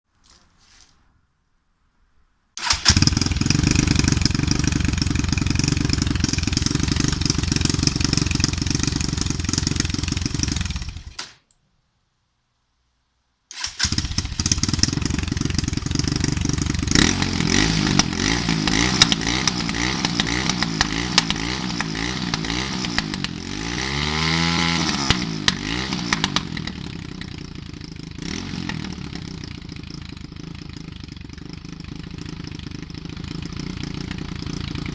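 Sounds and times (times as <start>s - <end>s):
dirt bike engine running: 2.9s - 11.2s, 13.8s - 34.9s.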